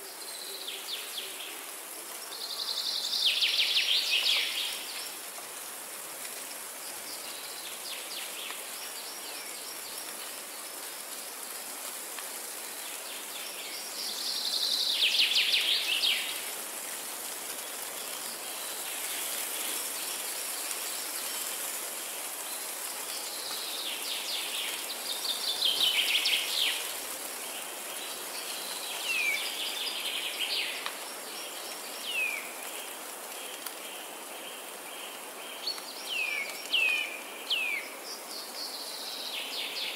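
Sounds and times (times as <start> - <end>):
wind rustling through trees: 0.0 - 39.9.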